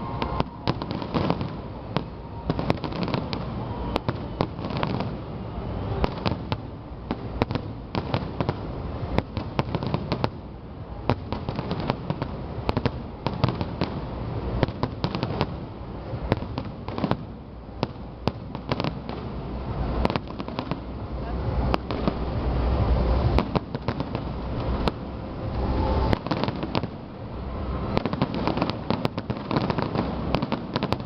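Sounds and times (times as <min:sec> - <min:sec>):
continuous low rumble: 0:00.0 - 0:31.0
fireworks bangs and crackling: 0:00.0 - 0:31.0.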